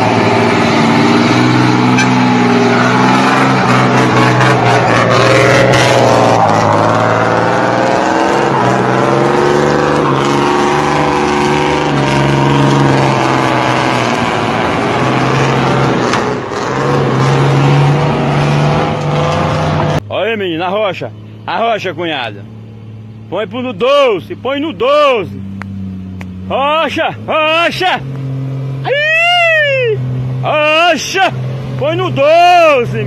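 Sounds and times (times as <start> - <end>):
diesel truck engine under load: 0.0 - 29.0.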